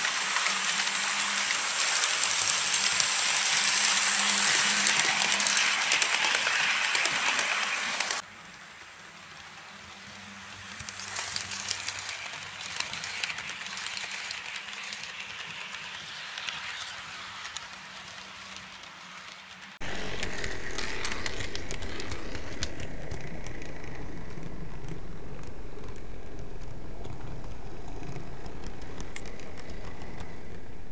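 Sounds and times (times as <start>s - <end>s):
model train rumbling on track: 0.0s - 30.9s
wheels clicking over rail joints: 0.0s - 30.9s.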